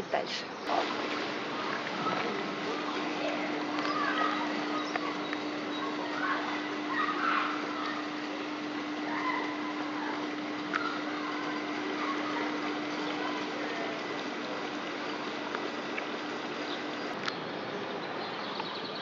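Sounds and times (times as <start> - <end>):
faint steady hum: 0.0 - 19.0
rushing outdoor noise: 0.0 - 19.0.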